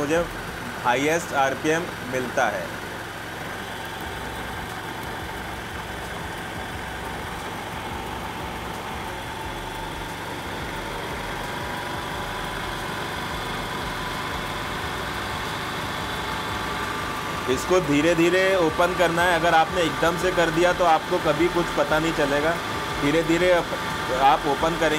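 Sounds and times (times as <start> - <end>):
scooter engine idling: 0.0 - 24.9.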